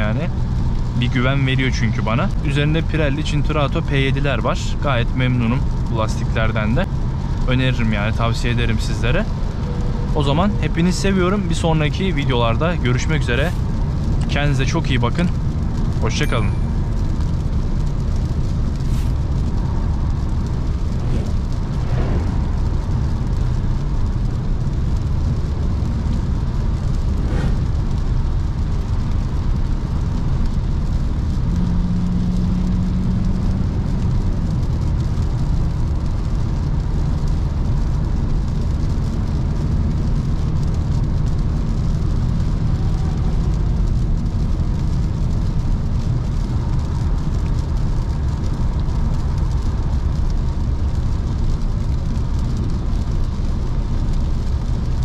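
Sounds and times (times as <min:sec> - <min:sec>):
road and tyre rumble: 0:00.0 - 0:55.0.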